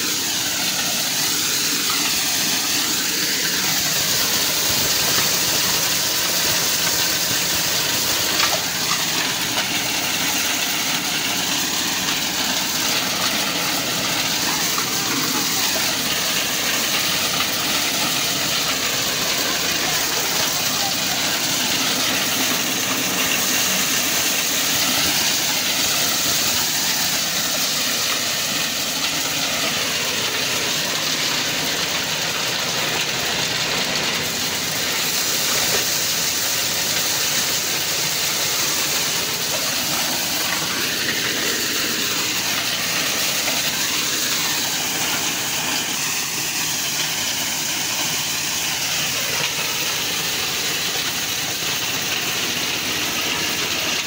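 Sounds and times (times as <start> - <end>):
maize thresher running: 0.0 - 54.0.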